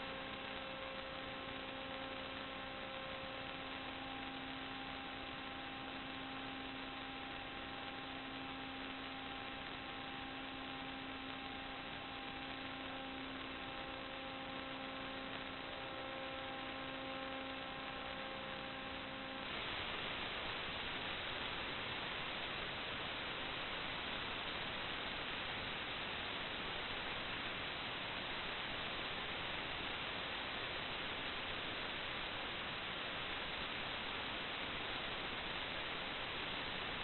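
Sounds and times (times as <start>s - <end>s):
electrical hum and hiss: 0.0s - 37.0s
faint steady tones: 0.0s - 37.0s
plain static: 0.0s - 37.0s.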